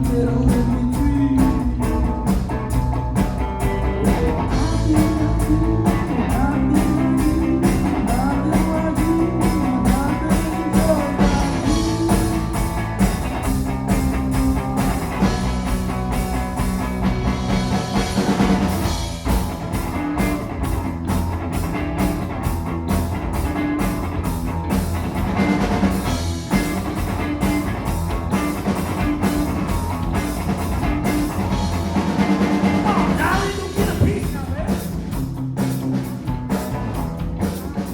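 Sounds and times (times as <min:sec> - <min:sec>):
drum kit beat: 0:00.0 - 0:37.9
rock band playing: 0:00.0 - 0:37.9.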